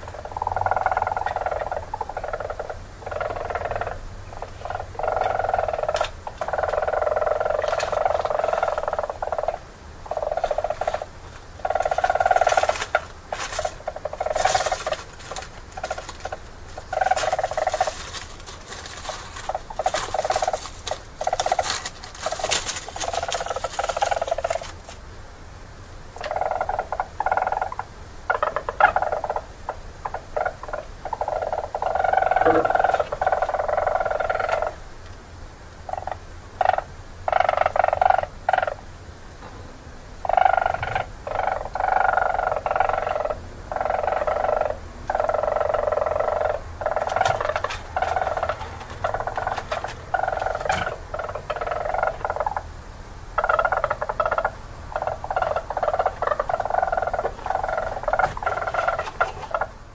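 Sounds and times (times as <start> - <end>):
weasels trilling: 0.0 - 24.8, 26.2 - 34.8, 40.2 - 52.7, 53.4 - 59.7.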